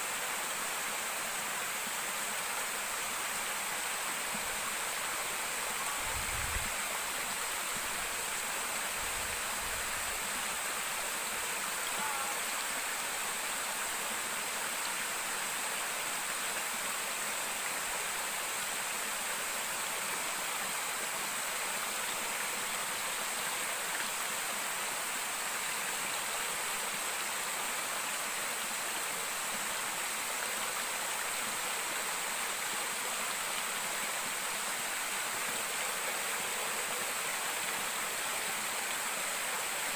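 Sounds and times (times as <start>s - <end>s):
flowing river water: 0.0s - 39.9s
waterfall: 0.0s - 39.9s.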